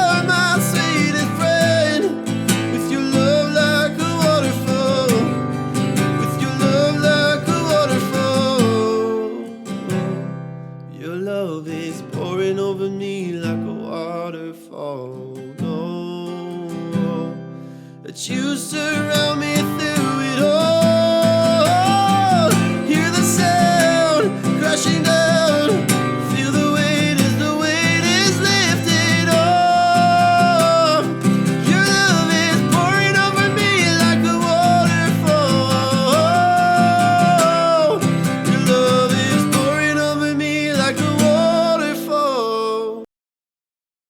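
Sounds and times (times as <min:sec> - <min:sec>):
strummed acoustic guitar: 0:00.0 - 0:43.0
person singing: 0:00.0 - 0:43.1
wordless held melodic voice: 0:00.0 - 0:43.1.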